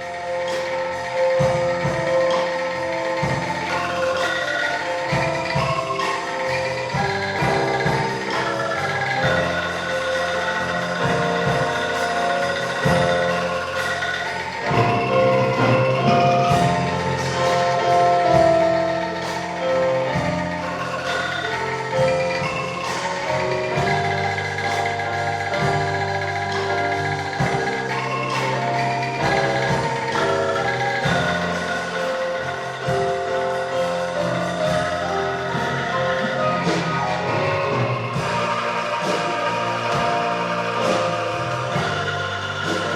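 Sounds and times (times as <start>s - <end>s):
angklung ensemble playing: 0.0s - 42.9s.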